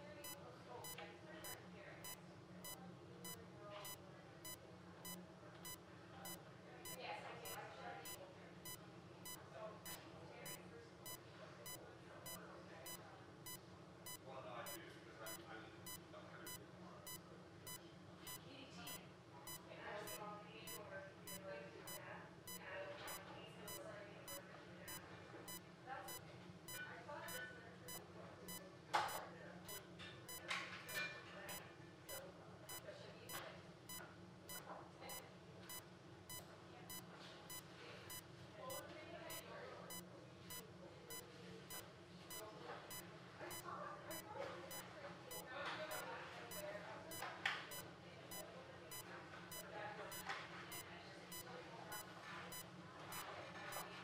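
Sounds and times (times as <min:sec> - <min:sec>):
faint low voices: 0:00.0 - 0:54.0
patient monitor beeping: 0:00.0 - 0:54.0.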